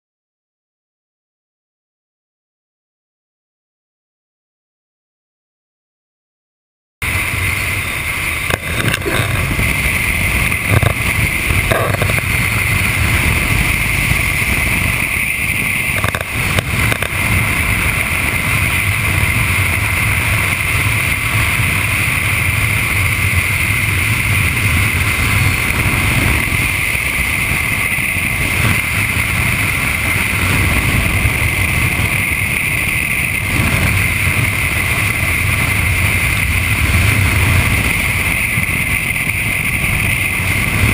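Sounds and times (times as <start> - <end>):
motorcycle engine drone: 7.0 - 40.9
wind and road noise: 7.0 - 40.9.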